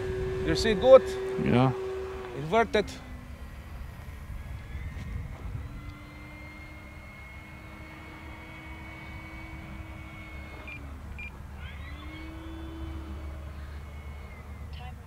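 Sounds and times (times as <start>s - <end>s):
rc plane motor and propeller drone: 0.0s - 15.0s.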